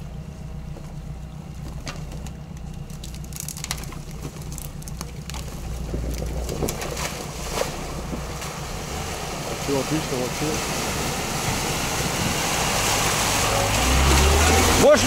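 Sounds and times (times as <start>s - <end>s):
car engine at low revs: 0.0s - 15.0s
wheels splashing into river: 1.8s - 15.0s.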